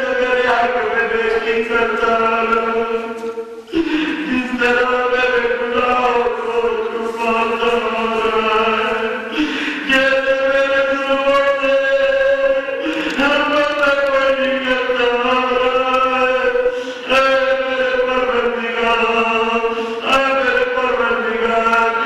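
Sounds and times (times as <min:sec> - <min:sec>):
man chanting into a microphone: 0:00.0 - 0:22.0.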